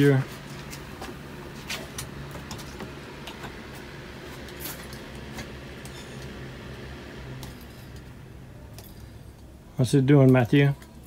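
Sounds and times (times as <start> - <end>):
low hum: 0.0 - 9.9.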